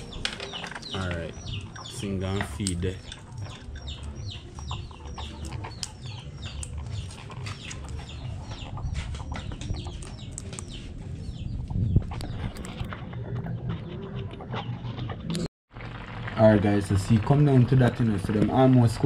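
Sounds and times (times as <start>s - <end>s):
birds chirping: 0.0s - 15.5s.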